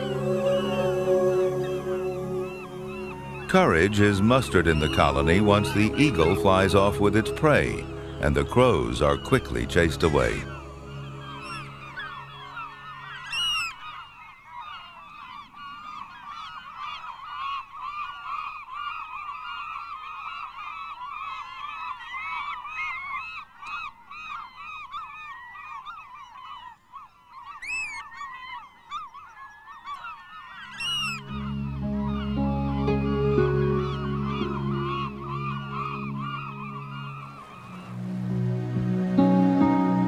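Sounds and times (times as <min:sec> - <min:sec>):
gull colony calling: 0:00.0 - 0:23.4, 0:28.9 - 0:40.0
loud gull calls: 0:00.0 - 0:38.5.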